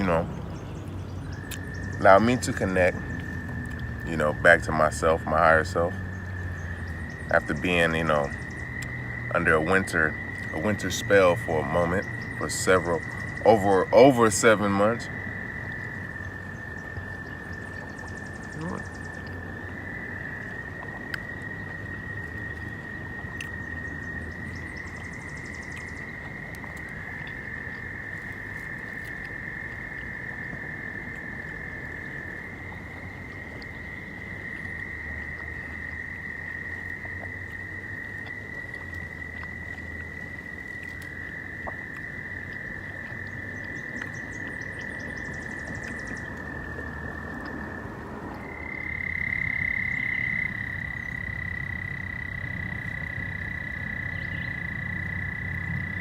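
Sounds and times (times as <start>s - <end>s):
frogs calling: 0.0s - 56.0s.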